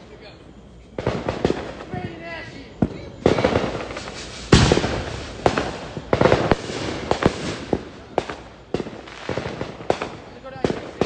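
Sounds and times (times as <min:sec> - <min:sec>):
fireworks bangs and pops: 0:00.9 - 0:11.0.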